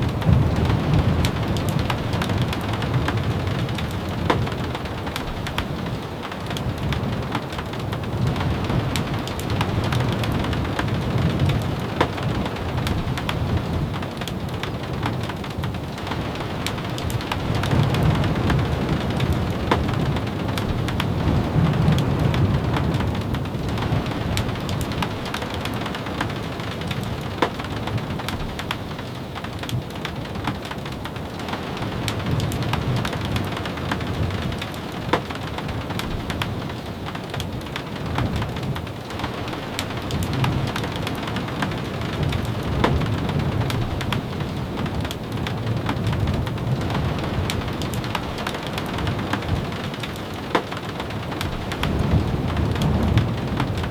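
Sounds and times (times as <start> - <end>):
rain falling on a cabin: 0.0 - 53.9.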